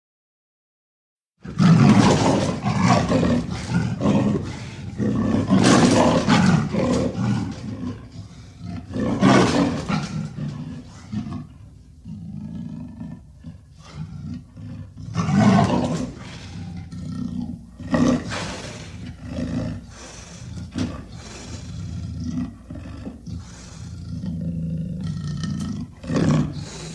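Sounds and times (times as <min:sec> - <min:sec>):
leopard roaring: 0:01.4 - 0:26.9.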